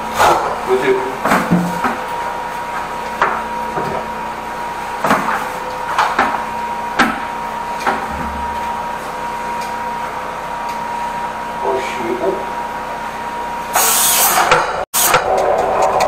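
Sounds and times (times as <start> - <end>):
drain jetter humming and whining: 0.0 - 16.0.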